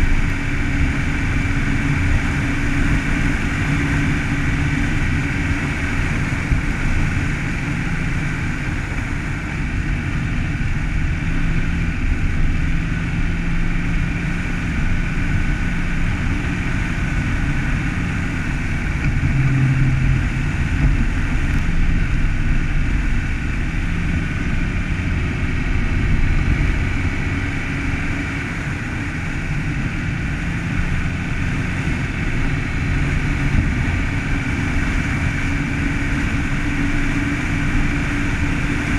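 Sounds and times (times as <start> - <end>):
low engine hum: 0.0 - 38.9
tyre and road noise: 0.0 - 38.9.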